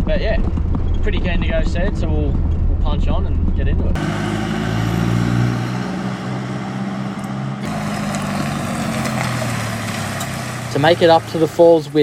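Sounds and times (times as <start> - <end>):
vehicle engine running: 0.5 - 12.0.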